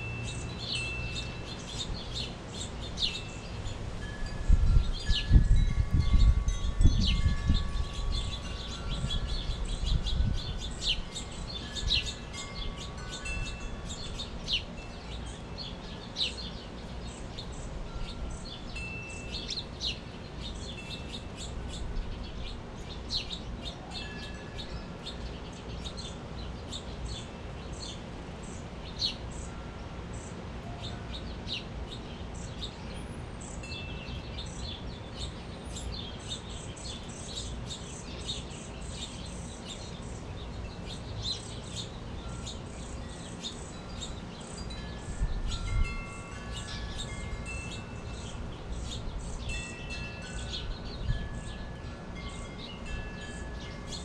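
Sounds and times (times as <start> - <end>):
flock of small birds chirping: 0.0 - 54.0.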